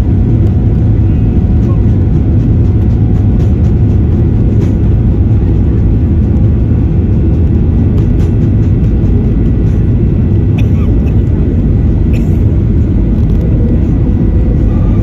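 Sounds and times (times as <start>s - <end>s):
faint engine whine: 0.0s - 15.0s
jet engine rumble in cabin: 0.0s - 15.0s.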